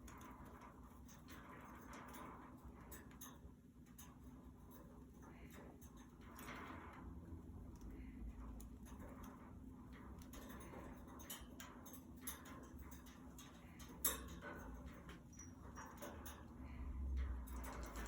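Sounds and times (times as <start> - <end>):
budgies clicking and tapping: 0.0 - 18.0.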